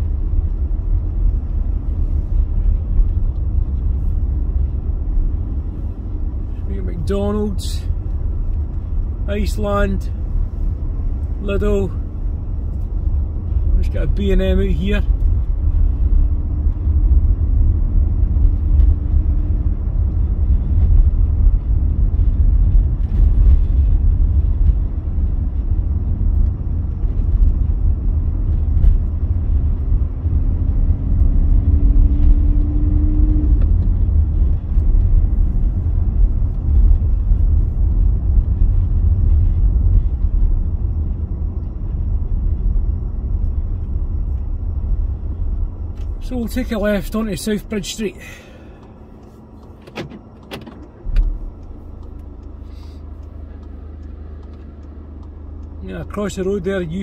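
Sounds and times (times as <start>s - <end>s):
car road noise rumble: 0.0s - 57.0s
faint engine hum: 0.0s - 57.0s.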